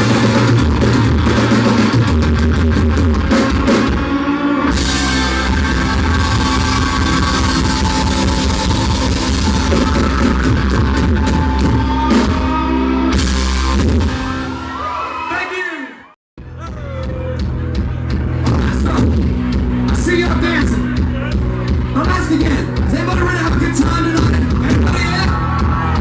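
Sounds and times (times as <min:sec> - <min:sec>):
distorted country-rock band: 0:00.0 - 0:15.1, 0:16.4 - 0:26.0.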